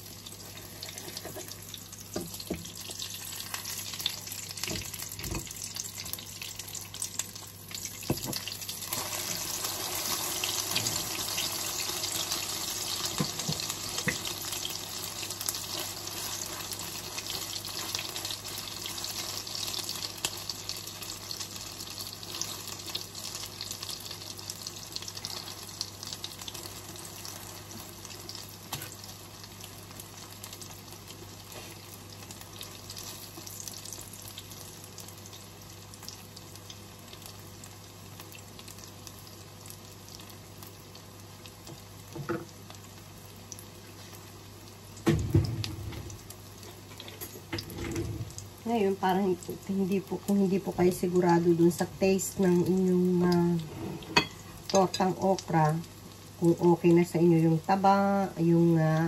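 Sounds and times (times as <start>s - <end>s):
food frying in hot oil: 0.0s - 59.0s.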